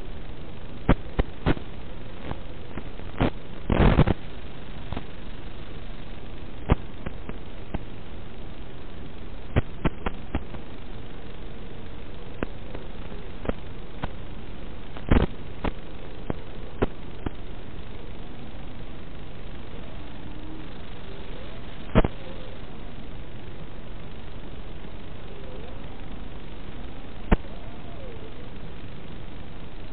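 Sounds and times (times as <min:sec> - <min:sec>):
radio static clicks: 0:00.0 - 0:29.9
static hiss: 0:00.0 - 0:29.9.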